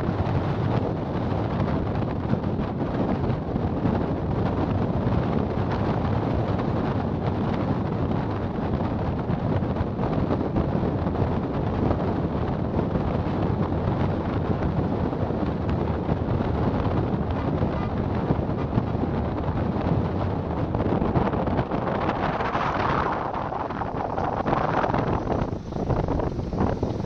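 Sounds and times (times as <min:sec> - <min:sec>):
low road and engine rumble: 0:00.0 - 0:27.0
wind rushing over microphone: 0:00.0 - 0:27.0.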